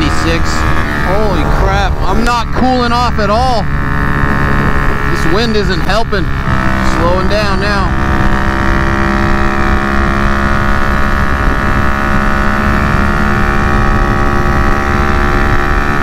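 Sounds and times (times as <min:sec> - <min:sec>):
motorcycle engine cruising: 0:00.0 - 0:16.0
wind rumbling on microphone: 0:00.0 - 0:16.0.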